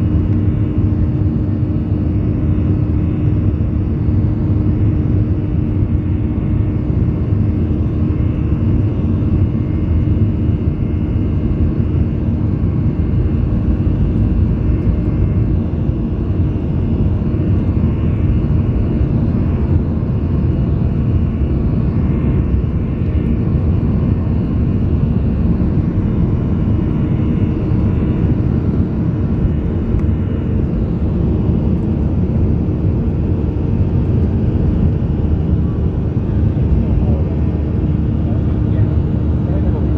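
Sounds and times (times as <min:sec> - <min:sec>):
jet engine cabin rumble: 0:00.0 - 0:39.9
steady cabin hum: 0:00.0 - 0:39.9.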